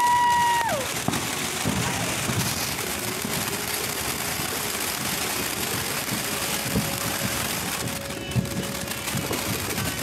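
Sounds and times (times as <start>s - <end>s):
firework crackles: 0.0s - 10.0s
firework fountain hissing: 0.0s - 10.0s.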